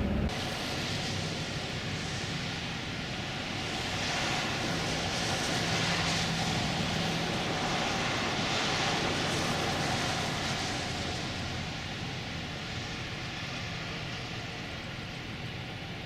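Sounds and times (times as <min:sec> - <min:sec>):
low engine hum: 0:00.0 - 0:16.0
tyre and wind hiss: 0:00.3 - 0:16.0.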